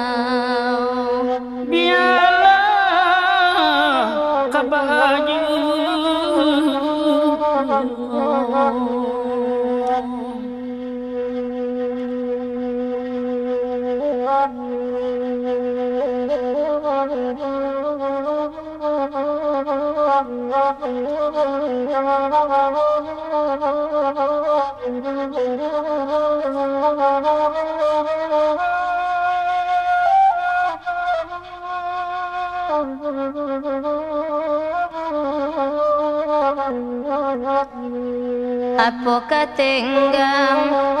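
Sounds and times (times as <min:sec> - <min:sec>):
bamboo flute melody: 0:00.0 - 0:41.0.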